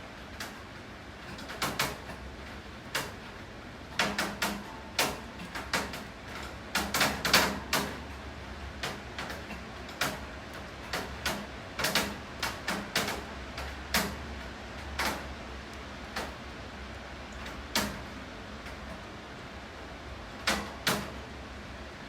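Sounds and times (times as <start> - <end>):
low hiss and hum: 0.0 - 22.0.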